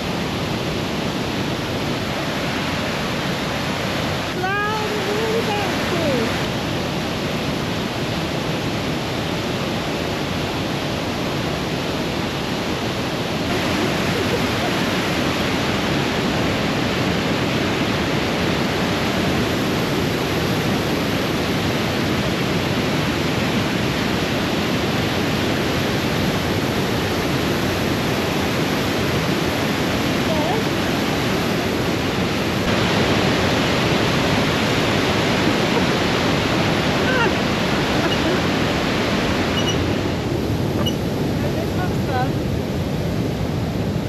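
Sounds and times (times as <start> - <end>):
mountain torrent rushing: 0.0 - 44.0.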